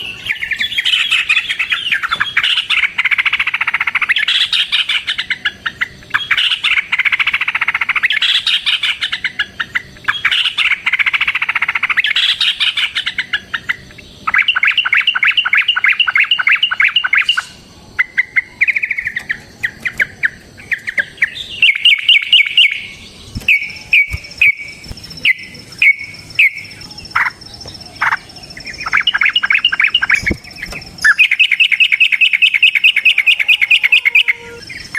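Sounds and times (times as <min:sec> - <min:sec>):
bulbul singing: 0:00.0 - 0:34.9.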